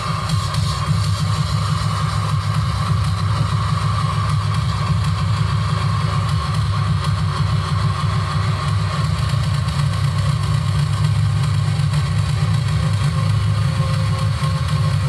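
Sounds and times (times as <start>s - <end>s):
distorted low drone: 0.0s - 15.0s.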